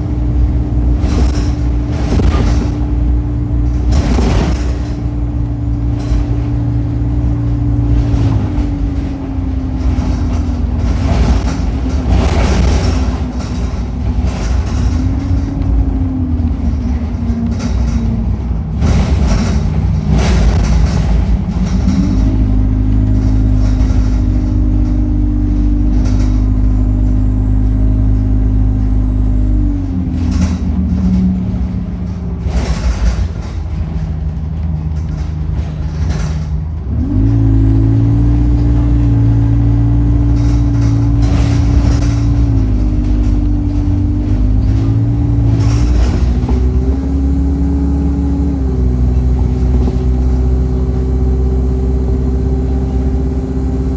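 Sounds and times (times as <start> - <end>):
bus diesel engine accelerating: 0.0 - 53.9
knocks and rattles: 0.0 - 53.9.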